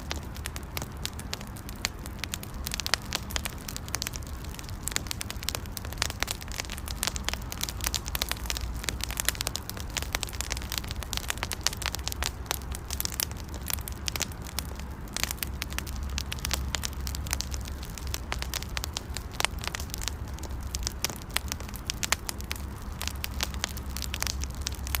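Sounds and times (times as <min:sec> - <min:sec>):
campfire low rumble: 0:00.0 - 0:25.0
fire crackling and popping: 0:00.0 - 0:25.0.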